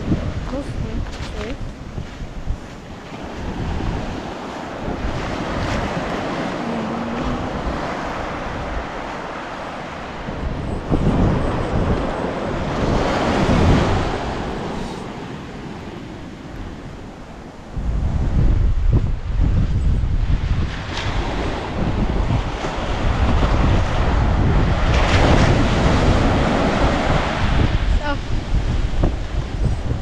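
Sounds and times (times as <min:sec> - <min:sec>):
ocean surf washing onto beach: 0:00.0 - 0:30.0
wind buffeting microphone: 0:00.0 - 0:30.0.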